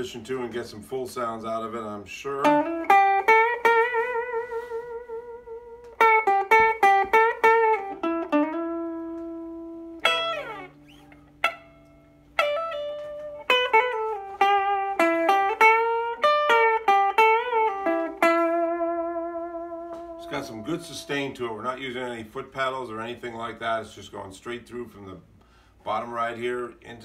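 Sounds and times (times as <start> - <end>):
electric guitar playing blues licks: 0.0 - 23.6.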